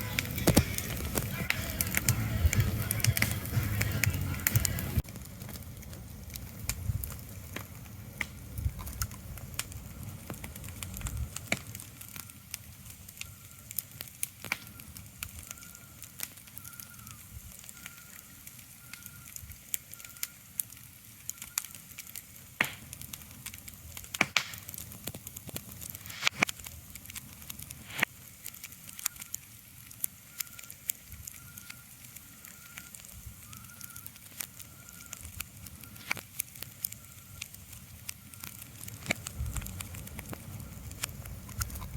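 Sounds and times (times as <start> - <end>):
crackles and pops: 0.0 - 41.9.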